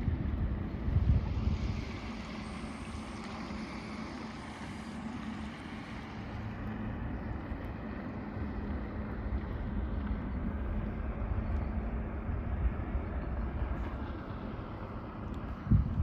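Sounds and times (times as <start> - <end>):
outboard motor droning: 0.0 - 16.0
wind rumbling on microphone: 0.0 - 16.0.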